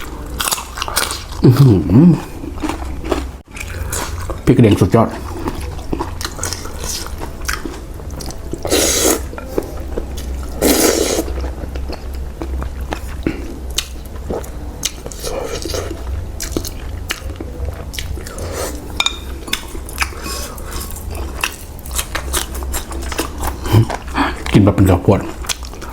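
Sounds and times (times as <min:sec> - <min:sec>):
chewing and crunching: 0:00.0 - 0:25.9.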